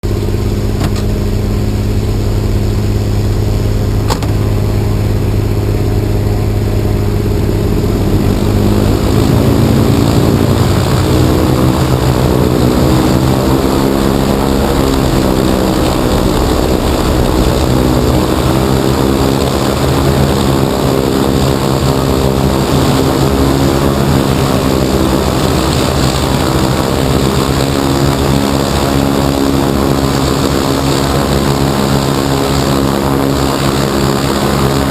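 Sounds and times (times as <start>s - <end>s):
heavy engines running: 0.0s - 34.9s.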